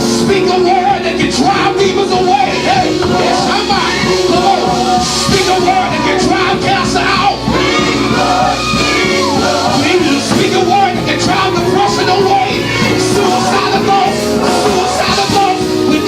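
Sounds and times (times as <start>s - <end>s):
live gospel band: 0.0s - 16.0s
voices singing and calling out: 0.3s - 16.0s.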